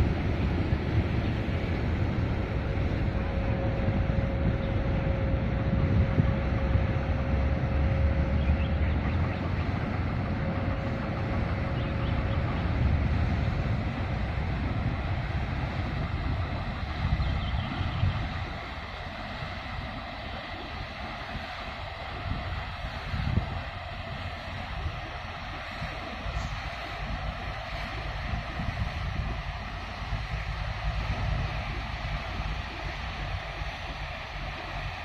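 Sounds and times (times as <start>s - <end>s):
faint steady hum: 0.0s - 35.0s
wind buffeting microphone: 0.0s - 35.0s.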